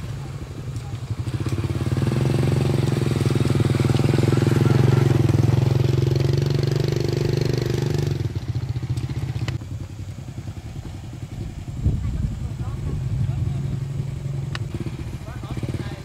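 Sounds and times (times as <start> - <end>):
distant pulsing motorcycle engine: 0.0 - 16.0
motorcycle engine running: 0.0 - 16.0.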